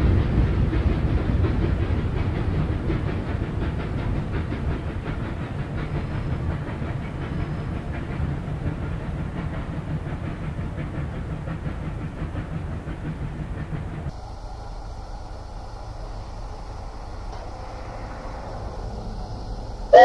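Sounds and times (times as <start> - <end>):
steam locomotive chuffing: 0.0 - 20.0.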